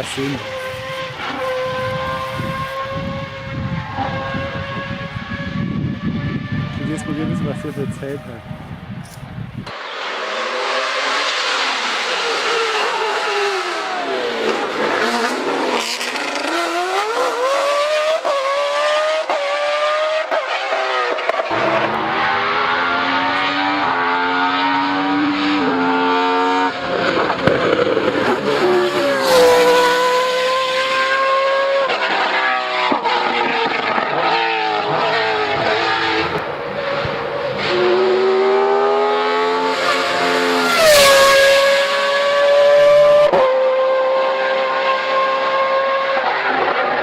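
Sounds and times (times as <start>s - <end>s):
race car engine revving: 0.0s - 8.9s, 9.8s - 47.0s.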